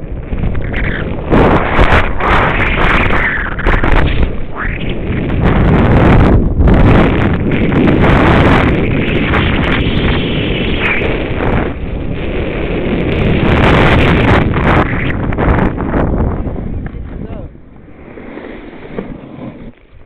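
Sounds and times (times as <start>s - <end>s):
wind buffeting microphone: 0.0s - 20.0s
snowboard sliding on snow: 0.6s - 20.0s.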